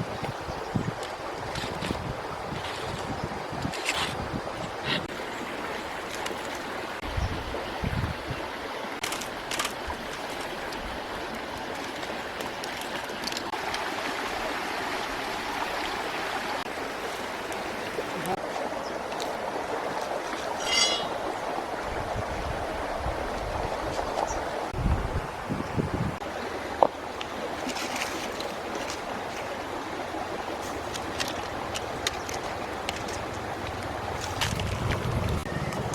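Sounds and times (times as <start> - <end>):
running water: 0.0 - 35.9.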